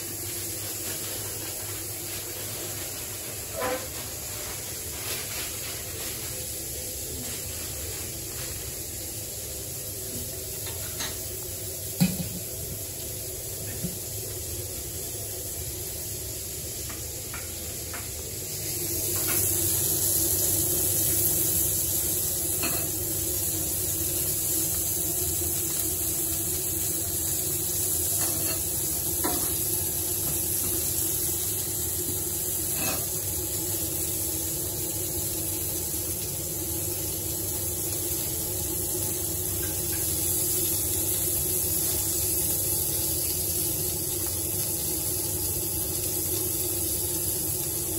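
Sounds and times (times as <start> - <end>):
meatballs sizzling on grill: 0.0 - 47.9.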